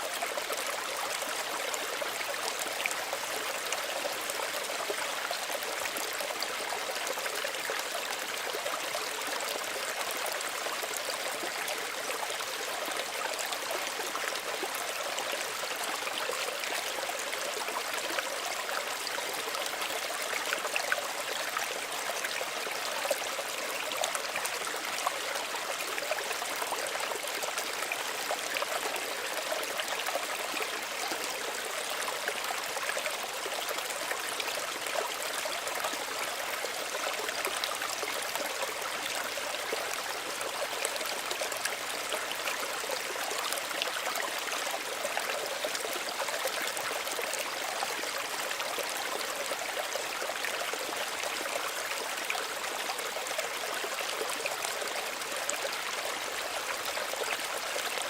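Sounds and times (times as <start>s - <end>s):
stream trickling over stones: 0.0s - 58.0s.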